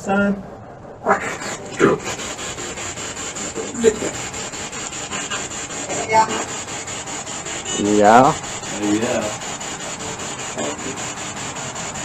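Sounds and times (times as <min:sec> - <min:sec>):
radio static pulsing: 0:00.0 - 0:12.0
snatches of broadcast sound: 0:00.0 - 0:12.0.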